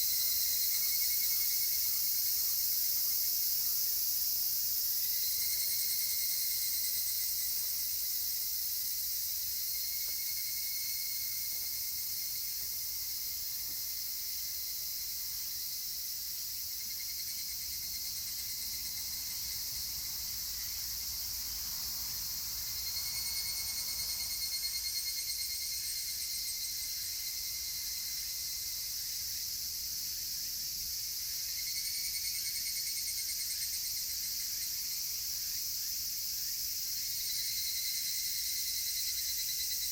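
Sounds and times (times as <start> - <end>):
cicadas chorus: 0.0 - 39.9
evening cicadas trilling: 0.0 - 39.9.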